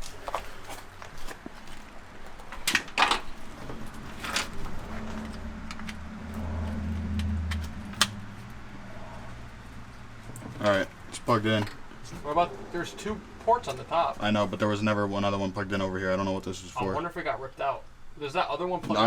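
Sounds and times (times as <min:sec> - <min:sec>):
low hum: 0:03.0 - 0:18.6.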